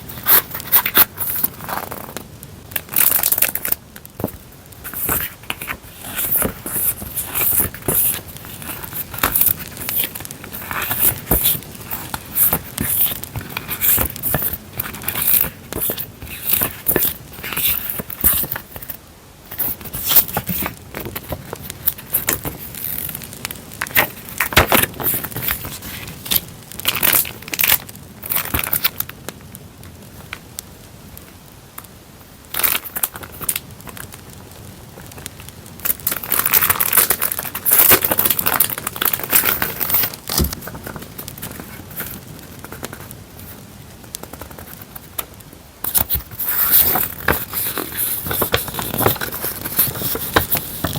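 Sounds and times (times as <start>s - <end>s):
campfire crackling: 0.0s - 17.6s, 20.7s - 49.8s
packaging crinkling and rustling: 0.0s - 29.1s, 32.5s - 34.2s, 35.0s - 43.6s, 44.2s - 50.9s.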